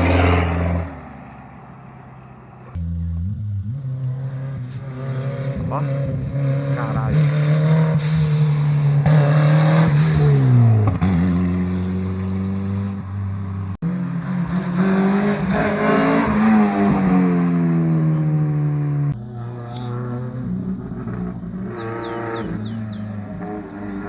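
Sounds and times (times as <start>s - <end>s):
car engine passing: 0.0s - 24.0s.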